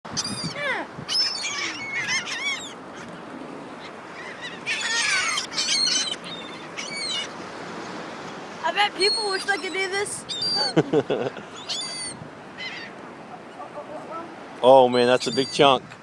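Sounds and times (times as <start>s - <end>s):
gulls calling: 0.1s - 15.8s.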